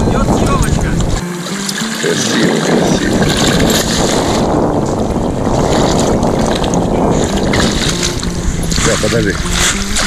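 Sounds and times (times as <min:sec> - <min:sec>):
wind buffeting microphone: 0:00.0 - 0:10.0
fish thrashing and splashing: 0:01.2 - 0:10.0.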